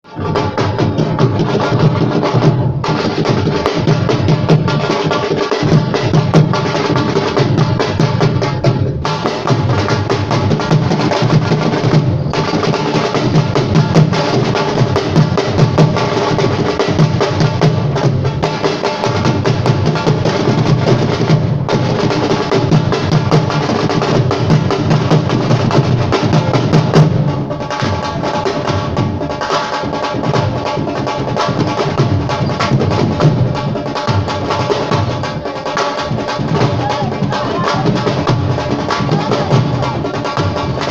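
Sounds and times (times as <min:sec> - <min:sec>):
fast dense drumming: 0:00.1 - 0:40.9.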